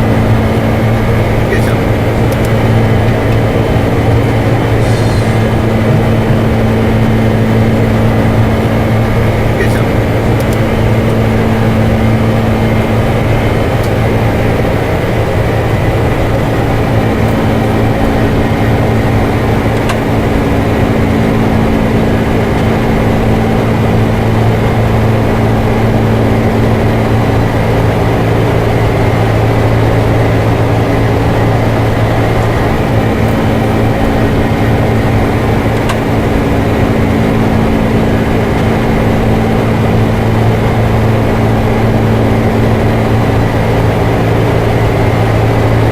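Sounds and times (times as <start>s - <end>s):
aircraft engines rushing: 0.0s - 45.9s.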